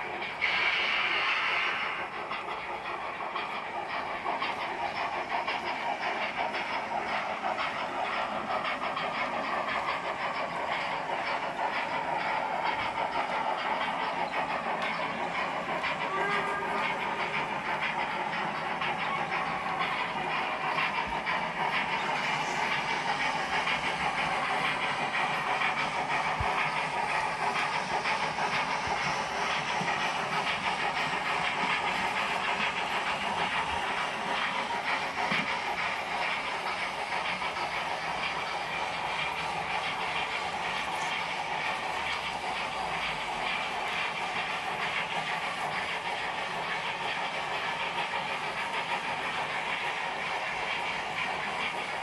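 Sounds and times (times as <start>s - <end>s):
model steam locomotive chuffing: 0.0s - 52.0s
model wagons rattling on track: 1.5s - 52.0s.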